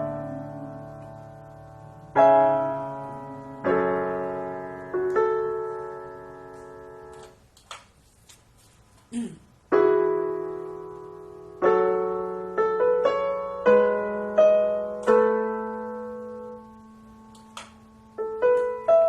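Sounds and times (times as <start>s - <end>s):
digital piano chords: 0.0s - 7.5s, 9.6s - 19.0s.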